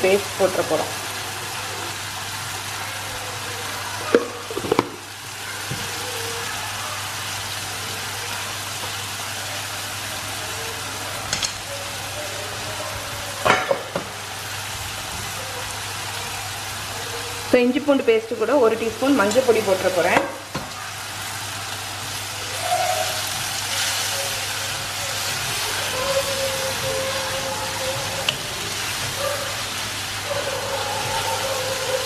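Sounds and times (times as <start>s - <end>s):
onions sizzling in oil: 0.0s - 32.0s.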